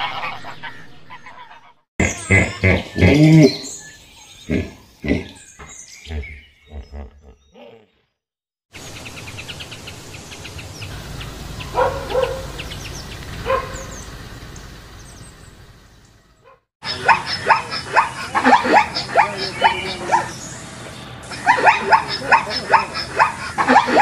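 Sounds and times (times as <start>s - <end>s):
small birds chirping: 2.0s - 24.0s.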